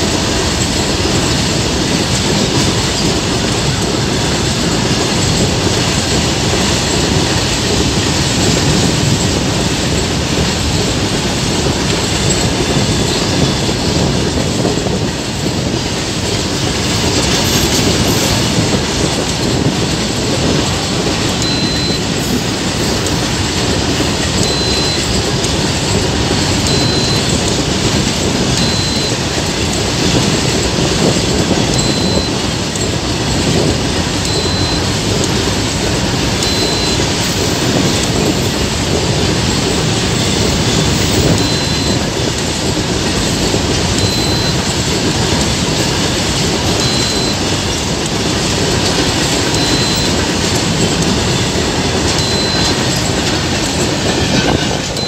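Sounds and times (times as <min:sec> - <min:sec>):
freight train wheels clattering: 0:00.0 - 0:55.0
wheel squeaks: 0:00.1 - 0:55.0.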